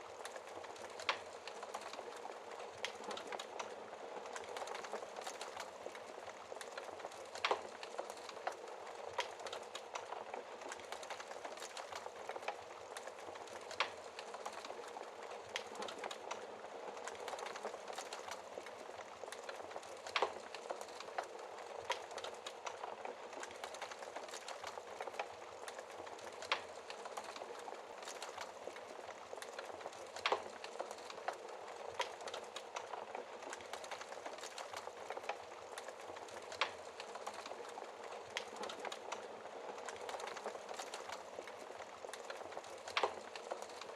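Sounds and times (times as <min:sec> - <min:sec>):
wood fire crackling: 0:00.0 - 0:43.9
fire popping: 0:00.1 - 0:43.9.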